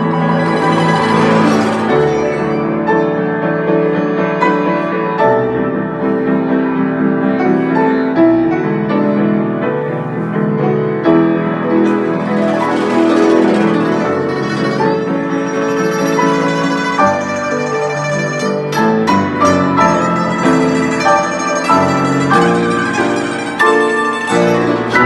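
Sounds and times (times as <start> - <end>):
guzheng playing: 0.0 - 6.3, 10.5 - 25.0
piano playing: 0.0 - 25.0.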